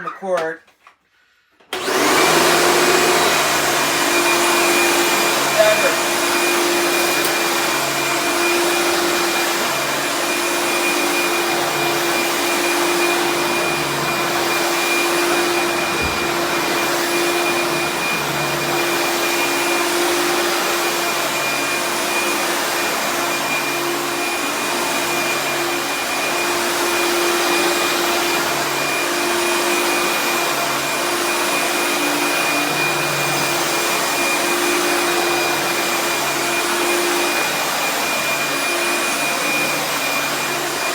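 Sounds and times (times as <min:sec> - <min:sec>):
vacuum cleaner running: 0:01.7 - 0:40.9.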